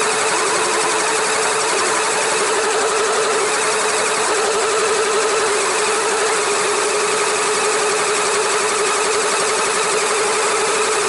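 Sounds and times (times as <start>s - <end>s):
toy electric motors whining: 0.0s - 11.0s.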